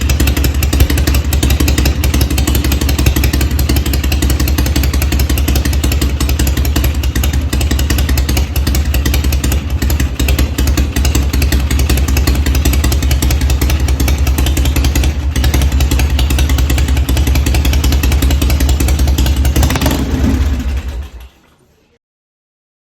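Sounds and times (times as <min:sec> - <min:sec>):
motorcycle engine idling: 0:00.0 - 0:21.7.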